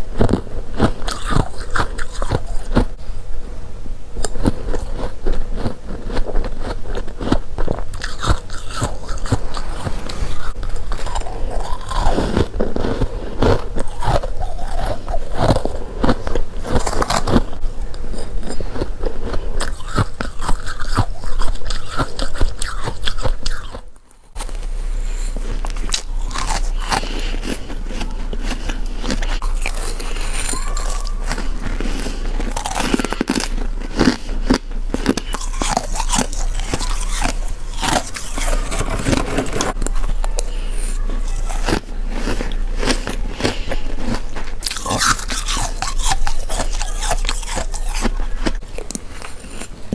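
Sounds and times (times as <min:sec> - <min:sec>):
frost being chewed: 0:00.0 - 0:03.0, 0:04.2 - 0:49.9.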